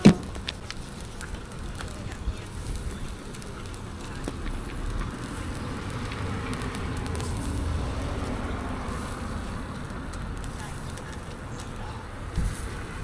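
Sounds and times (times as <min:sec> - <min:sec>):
food sizzling in a pan: 0:00.0 - 0:13.0
low outdoor rumble: 0:00.0 - 0:13.0.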